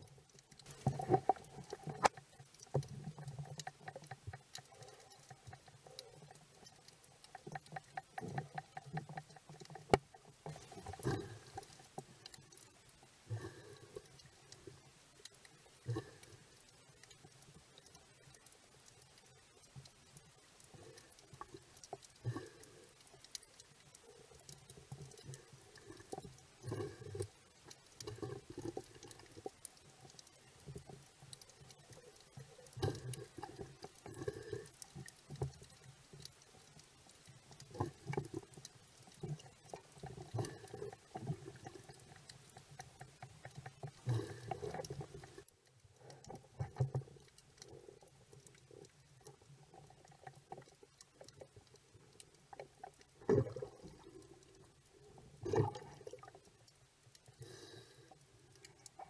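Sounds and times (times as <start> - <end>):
underwater clicks and crackles: 0.0 - 59.0.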